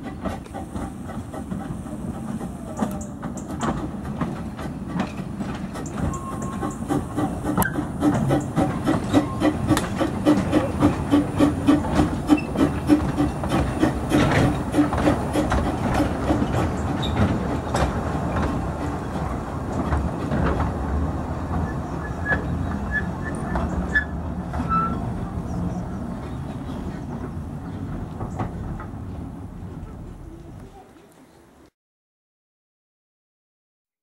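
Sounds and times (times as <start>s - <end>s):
steam locomotive chuffing: 0.0s - 30.4s
wheels clicking over rail joints: 0.0s - 31.7s.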